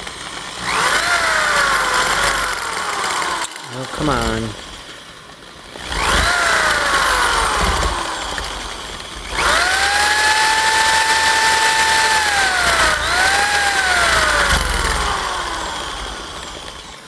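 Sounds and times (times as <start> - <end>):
electric drill whine: 0.0 - 17.0.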